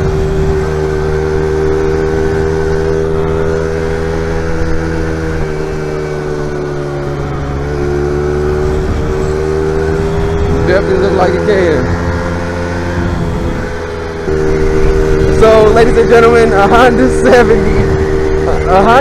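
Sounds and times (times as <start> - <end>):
motorbike engine revving high: 0.0 - 19.0
wind and road noise: 0.0 - 19.0.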